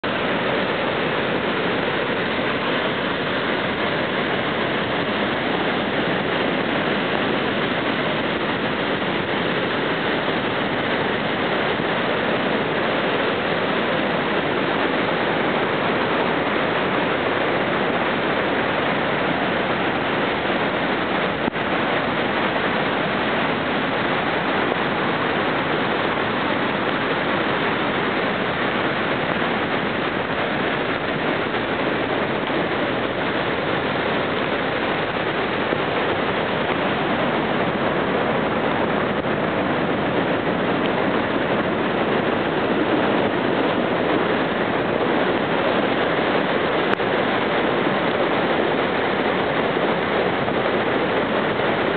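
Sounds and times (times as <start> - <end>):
floodwater rushing: 0.0 - 51.9.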